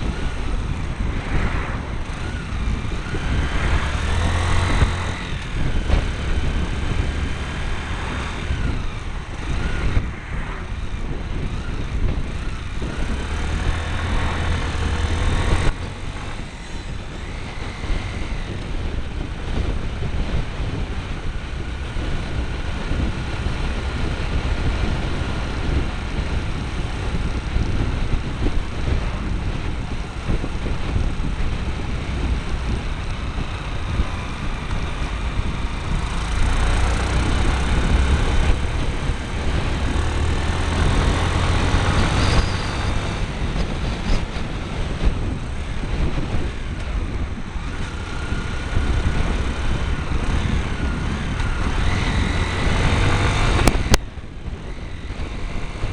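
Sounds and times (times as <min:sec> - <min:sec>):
motorcycle engine: 0:00.0 - 0:55.9
wind rumbling on microphone: 0:00.0 - 0:55.9.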